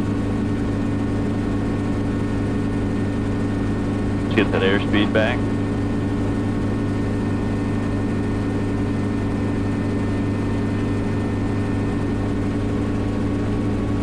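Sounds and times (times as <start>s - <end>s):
helicopter engine and rotors drone: 0.0s - 14.0s.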